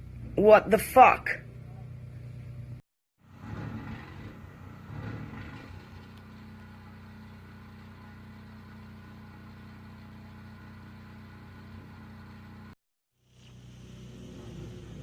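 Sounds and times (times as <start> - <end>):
vehicle engine idling: 1.4 - 15.0.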